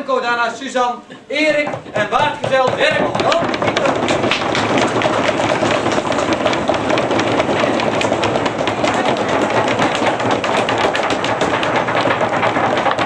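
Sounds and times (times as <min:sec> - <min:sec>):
hands drumming on tables: 0:01.4 - 0:13.0.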